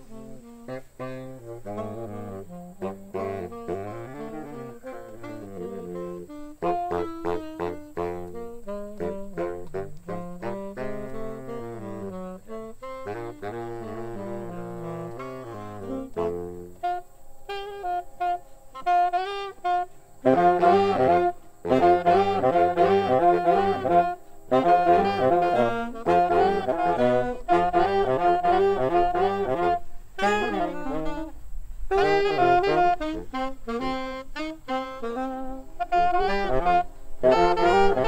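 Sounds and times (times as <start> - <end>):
jazz saxophone runs: 0.0 - 38.0.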